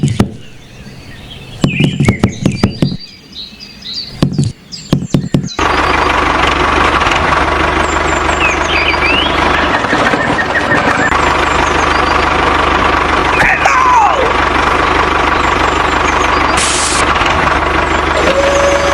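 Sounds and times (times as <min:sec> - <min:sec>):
tractor engine knocking idle: 0:00.0 - 0:00.7, 0:01.5 - 0:03.0, 0:04.2 - 0:18.9.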